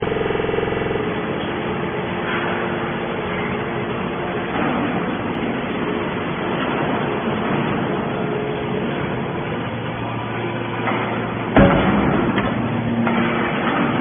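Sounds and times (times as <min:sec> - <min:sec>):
baler machinery running: 0:00.0 - 0:14.0
faint constant hum: 0:00.0 - 0:14.0.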